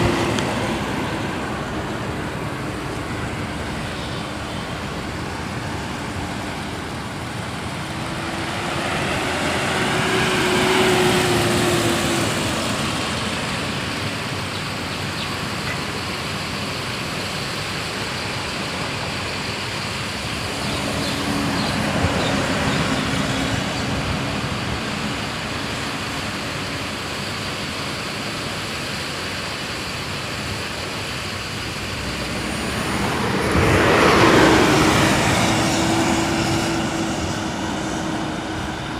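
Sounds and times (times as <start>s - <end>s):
motor vehicles passing: 0.0s - 28.6s, 30.6s - 38.9s
steady road noise: 0.0s - 38.9s.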